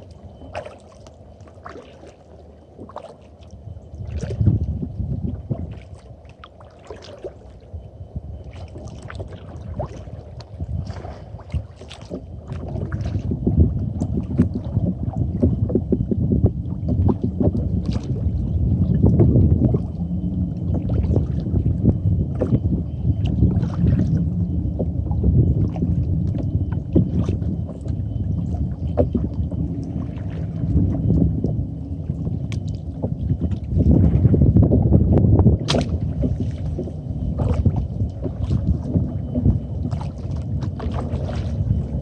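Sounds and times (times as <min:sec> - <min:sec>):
paddle splashing water: 0:00.0 - 0:07.8, 0:08.4 - 0:42.0
steady low rumble: 0:00.0 - 0:42.0.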